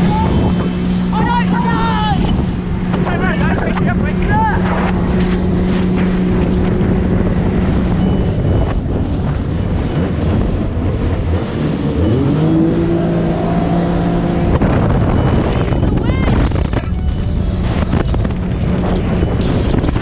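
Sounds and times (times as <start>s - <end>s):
jet ski engine: 0.0s - 20.0s
wind and water rushing: 0.0s - 20.0s.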